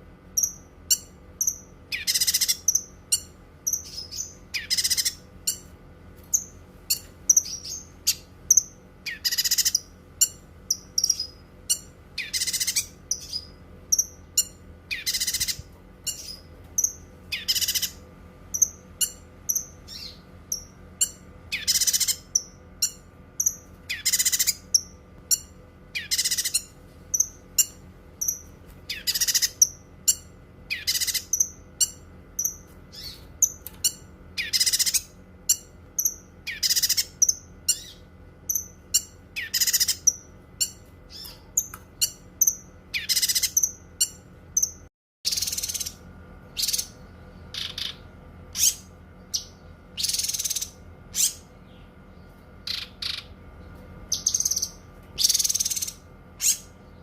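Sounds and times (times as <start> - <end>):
bird chirping: 0.3 - 5.7, 6.3 - 57.0.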